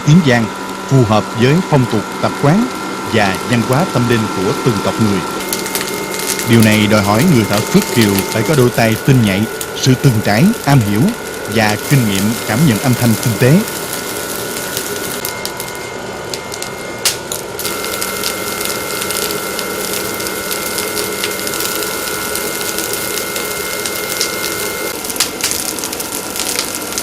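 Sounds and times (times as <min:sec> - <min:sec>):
workshop machine whine: 0:00.0 - 0:27.0.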